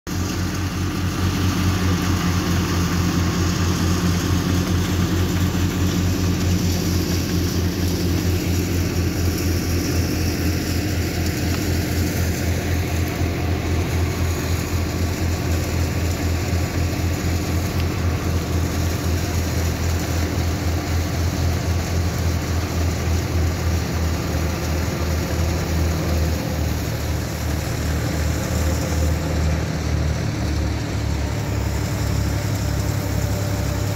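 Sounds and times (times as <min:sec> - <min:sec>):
tractor diesel engine chugging: 0:00.1 - 0:33.9.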